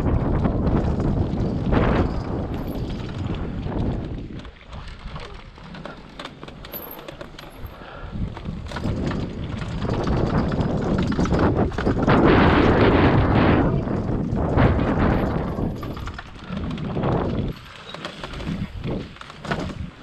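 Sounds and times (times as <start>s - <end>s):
wind buffeting microphone: 0.0s - 6.5s, 7.6s - 20.0s
bike rattling over rough trail: 0.0s - 20.0s.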